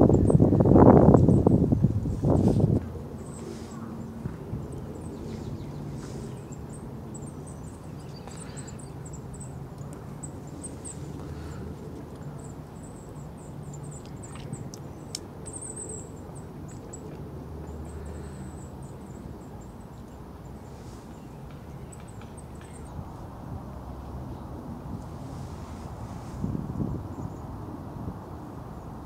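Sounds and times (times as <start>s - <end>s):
songbirds chirping: 0.0s - 27.6s.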